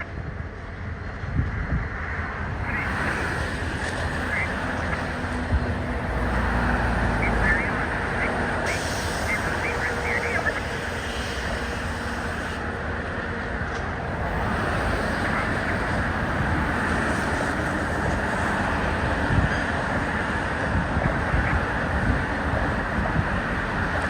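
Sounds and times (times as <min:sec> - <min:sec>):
freight train rumbling: 0:00.0 - 0:24.0.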